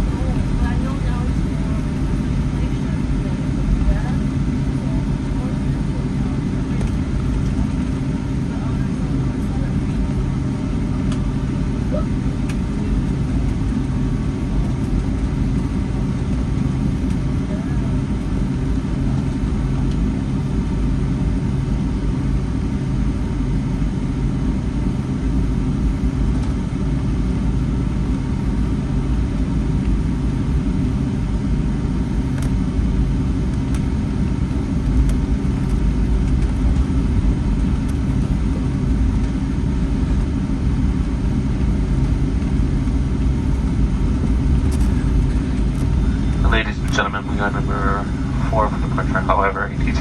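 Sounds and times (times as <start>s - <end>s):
jet engines rumbling in cabin: 0.0s - 50.0s.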